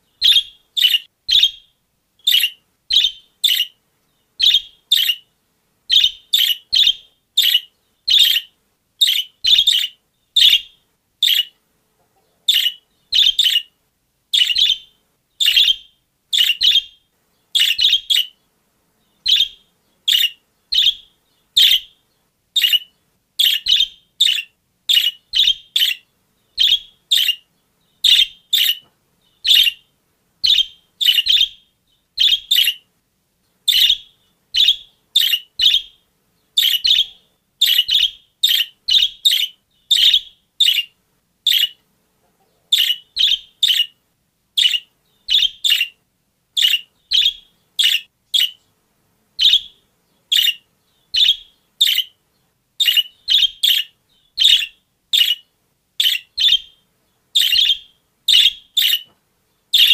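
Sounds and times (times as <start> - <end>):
budgerigars chirping: 0.2 - 3.8, 4.4 - 5.3, 5.9 - 11.6, 12.5 - 13.7, 14.3 - 18.4, 19.1 - 22.0, 22.6 - 32.9, 33.7 - 41.8, 42.7 - 44.0, 44.6 - 46.0, 46.6 - 48.7, 49.4 - 52.2, 52.8 - 56.8, 57.4 - 59.1.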